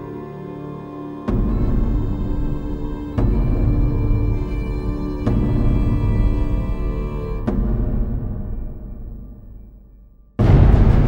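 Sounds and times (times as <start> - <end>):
dark dramatic soundtrack music: 0.0 - 11.0.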